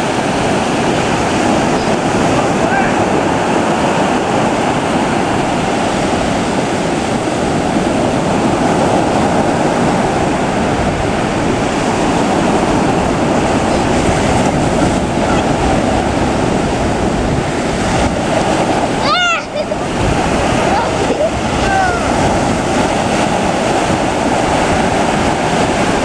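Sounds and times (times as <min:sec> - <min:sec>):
small ocean waves breaking: 0:00.0 - 0:26.0.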